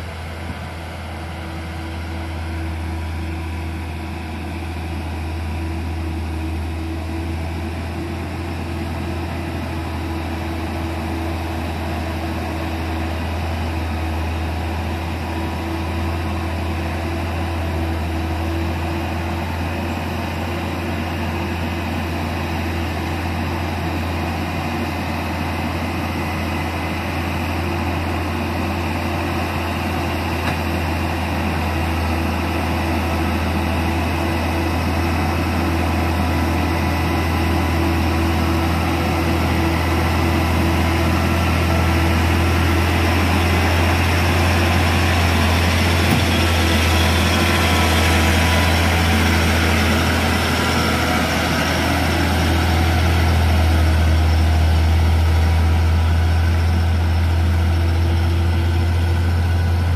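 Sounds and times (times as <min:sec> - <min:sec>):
truck diesel engine pulling uphill: 0:00.0 - 0:59.9.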